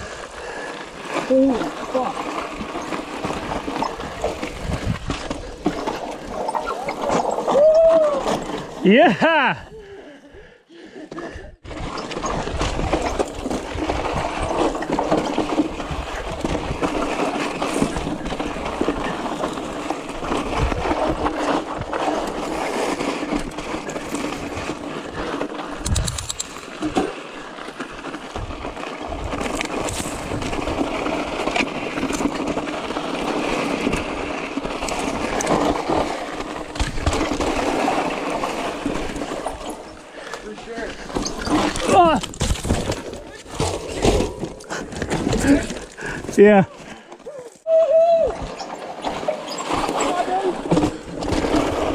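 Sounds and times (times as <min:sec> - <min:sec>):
bike knocking and rattling: 0:00.0 - 0:09.5, 0:11.6 - 0:47.3, 0:48.3 - 0:51.9
tyres rolling over rock: 0:00.0 - 0:09.6, 0:11.7 - 0:47.6, 0:48.4 - 0:51.9.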